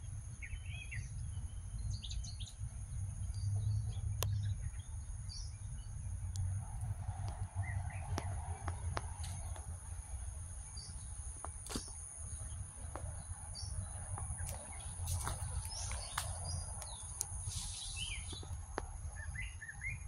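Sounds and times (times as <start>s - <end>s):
birds chirping: 0.0s - 20.0s
high insect drone: 0.0s - 20.0s.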